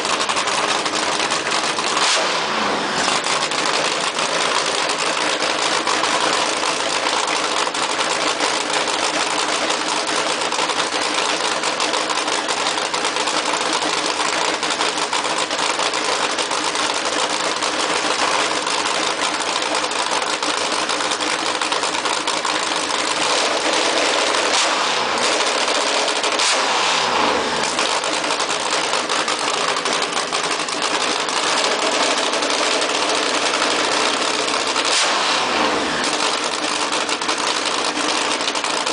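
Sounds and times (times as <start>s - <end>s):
loud engine fast idle: 0.0s - 38.9s.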